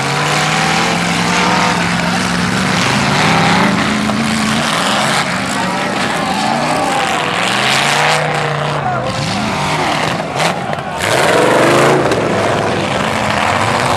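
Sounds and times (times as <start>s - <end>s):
car engines revving: 0.0s - 13.9s.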